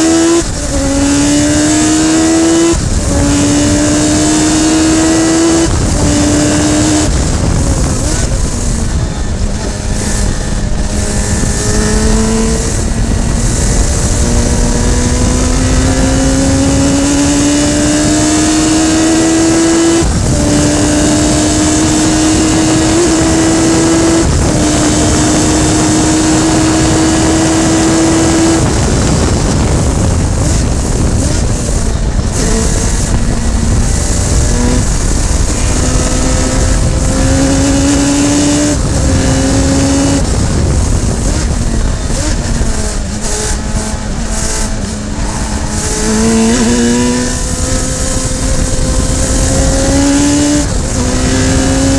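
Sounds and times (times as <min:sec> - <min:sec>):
racing car engine shifting gears: 0:00.0 - 0:51.9
wind and road noise: 0:00.0 - 0:51.9.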